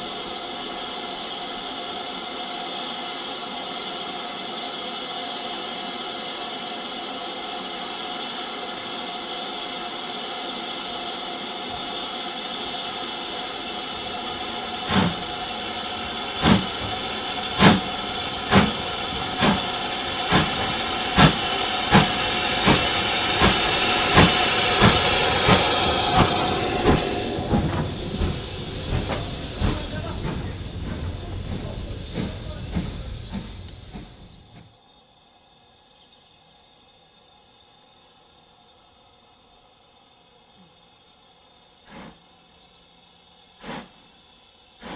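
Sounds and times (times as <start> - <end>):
steam hiss: 0.0 - 34.8, 41.8 - 44.9
steam locomotive exhaust chuffs: 0.0 - 34.8, 41.9 - 42.3, 43.5 - 44.9.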